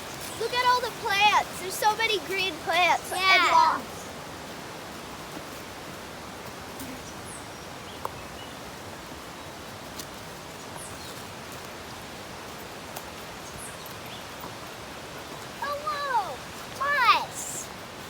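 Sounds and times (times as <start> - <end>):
creek rushing: 0.0 - 18.0.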